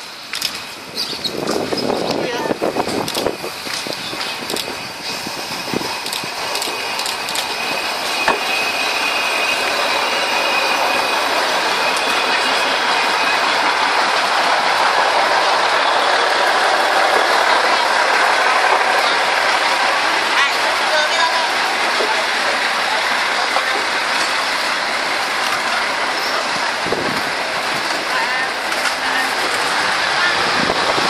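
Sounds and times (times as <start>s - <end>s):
diesel railcar engine running: 0.0s - 31.0s.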